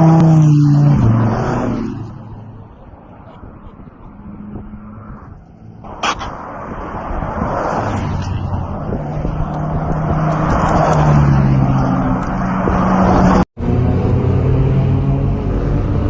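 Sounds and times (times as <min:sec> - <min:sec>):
car engine humming: 0:00.0 - 0:16.0
road noise: 0:00.0 - 0:16.0.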